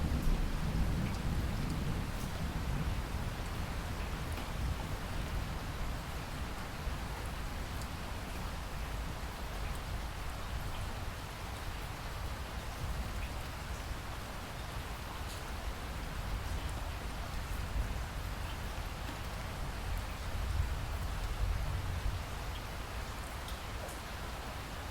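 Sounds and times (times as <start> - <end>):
faint raindrop ticks: 0.0 - 5.4, 6.4 - 10.9, 12.6 - 14.0, 15.2 - 24.1
rain falling: 0.0 - 24.9.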